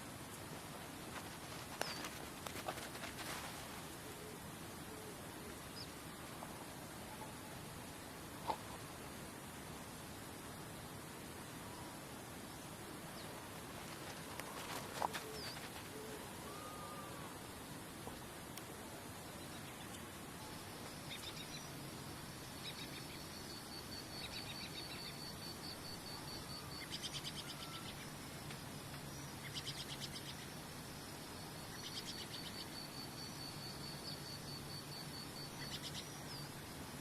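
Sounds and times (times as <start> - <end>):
soft steady hiss: 0.0 - 37.0.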